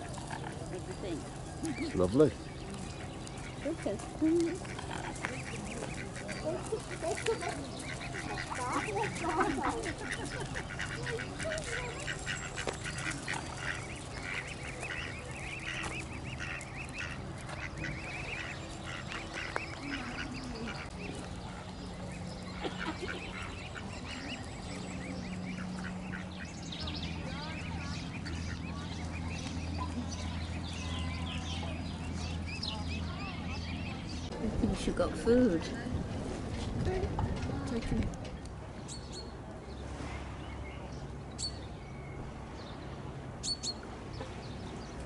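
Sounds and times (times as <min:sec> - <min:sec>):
cygnets peeping: 0:00.0 - 0:45.0.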